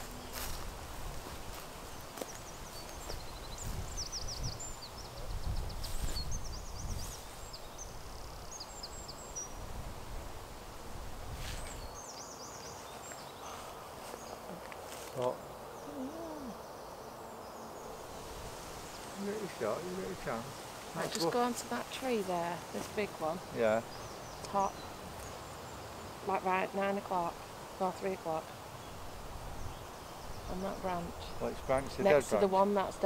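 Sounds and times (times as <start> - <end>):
small birds twittering: 0.0 - 33.0.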